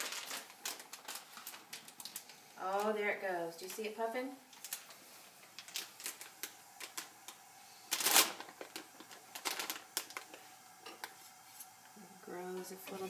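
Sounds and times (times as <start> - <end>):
chapati crackling on hot skillet: 0.0 - 2.7, 4.5 - 12.9.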